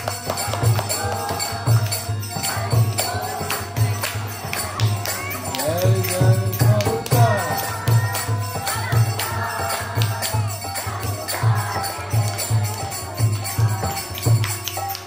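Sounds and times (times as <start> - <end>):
hand claps: 0.0 - 15.0
harmonium chords: 0.0 - 15.0
voices singing: 0.0 - 15.0.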